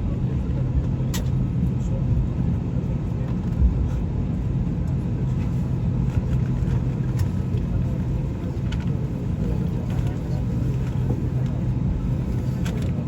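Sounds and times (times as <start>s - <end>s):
vehicle interior rumble: 0.0s - 13.0s.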